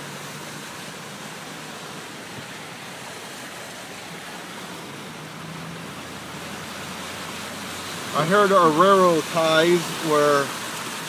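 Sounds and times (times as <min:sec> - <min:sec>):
heavy rain and floodwater rushing: 0:00.0 - 0:11.0.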